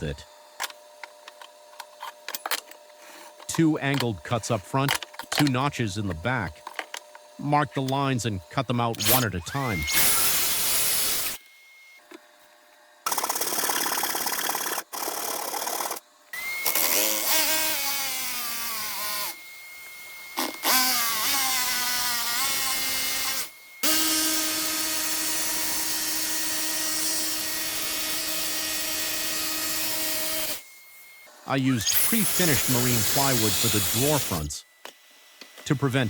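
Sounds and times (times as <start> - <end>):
electric power saw cutting: 0.0 - 12.2, 12.9 - 36.0.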